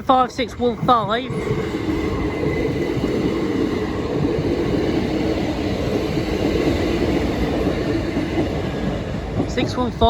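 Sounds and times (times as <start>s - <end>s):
train wheels on rail: 0.0s - 10.0s.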